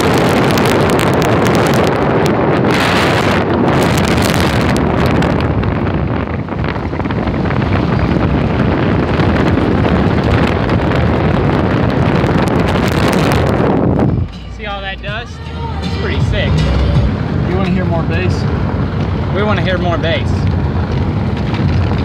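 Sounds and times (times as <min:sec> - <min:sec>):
car road noise: 0:00.0 - 0:22.0
wind buffeting microphone: 0:00.0 - 0:22.0.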